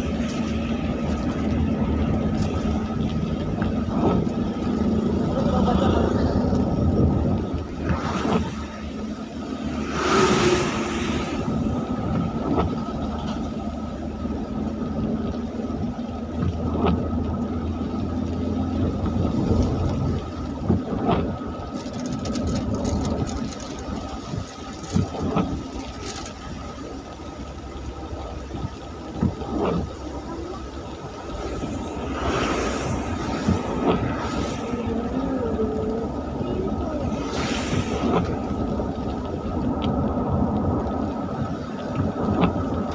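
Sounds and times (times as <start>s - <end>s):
vehicle engine humming: 0.0s - 42.9s
vehicle passing on wet road: 0.0s - 42.9s.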